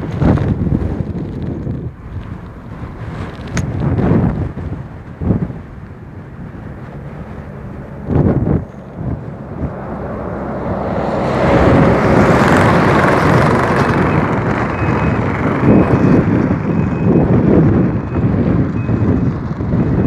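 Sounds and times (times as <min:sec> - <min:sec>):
truck passing: 0:00.0 - 0:20.0
wind buffeting microphone: 0:00.0 - 0:20.0.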